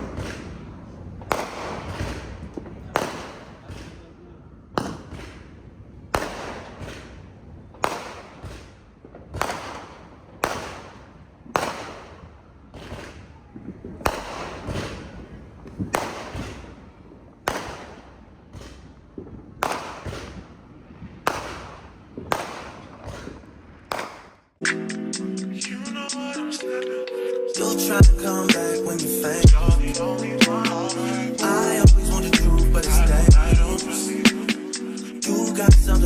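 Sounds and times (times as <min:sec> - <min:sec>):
fireworks bangs: 0:00.0 - 0:24.6, 0:28.0 - 0:35.9.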